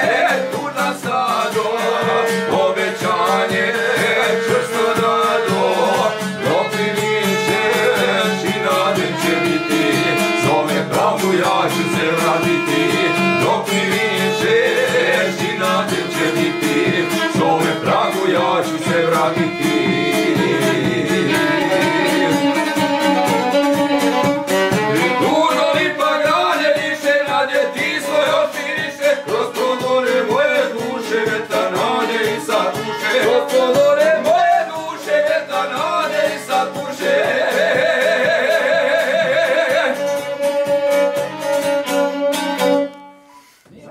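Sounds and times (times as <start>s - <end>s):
men singing: 0.0s - 23.3s, 24.5s - 40.4s
violin melody: 0.0s - 37.6s, 39.0s - 43.7s
lute strummed rapidly: 0.0s - 43.0s.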